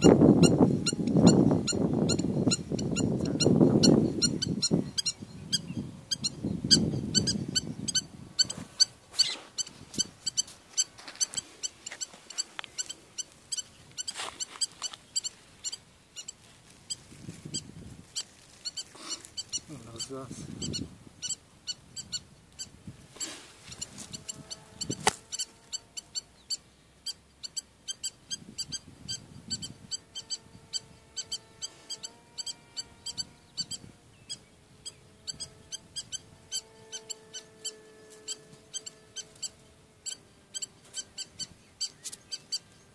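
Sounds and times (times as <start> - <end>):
bird chicks peeping: 0.0 - 22.8, 23.7 - 42.9.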